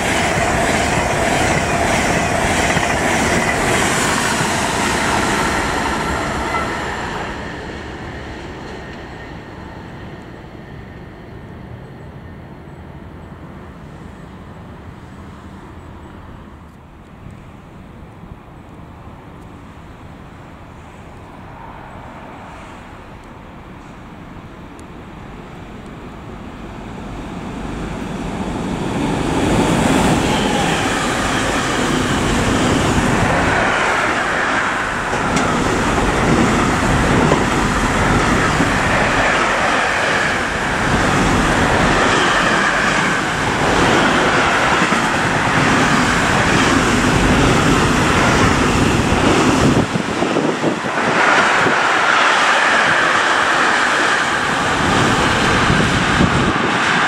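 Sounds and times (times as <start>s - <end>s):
freight train wheels rumbling: 0.0s - 16.7s, 20.6s - 57.0s.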